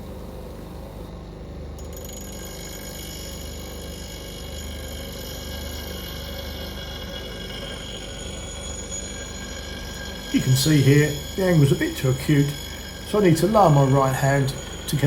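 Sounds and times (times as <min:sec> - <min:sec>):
bench grinder grinding steel: 0:02.3 - 0:15.0.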